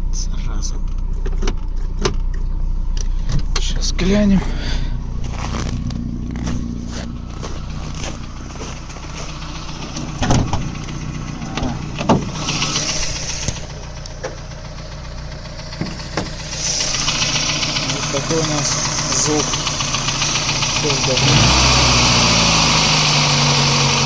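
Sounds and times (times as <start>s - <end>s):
car engine idling with knocking: 0.0s - 24.0s.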